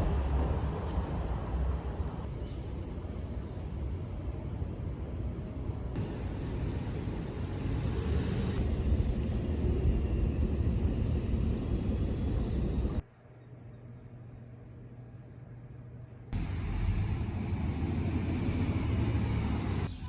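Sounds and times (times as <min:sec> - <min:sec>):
vehicle rumbling: 0:00.0 - 0:13.0, 0:16.3 - 0:20.0
steady hum: 0:00.0 - 0:20.0.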